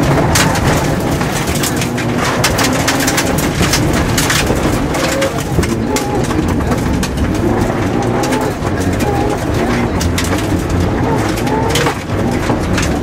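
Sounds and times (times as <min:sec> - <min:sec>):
car engine running hard: 0:00.0 - 0:13.0
stones rattling against underbody: 0:00.0 - 0:13.0.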